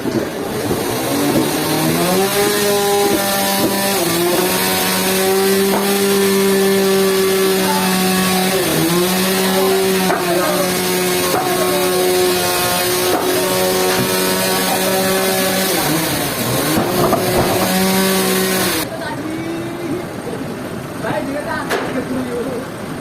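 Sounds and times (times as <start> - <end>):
saw drive mechanical hum: 0.0 - 18.9.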